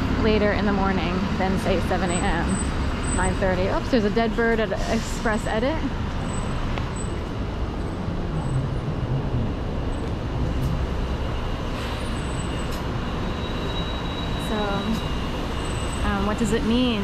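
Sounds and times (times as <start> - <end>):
bus engine drone: 0.0 - 17.0
street traffic: 0.0 - 17.0.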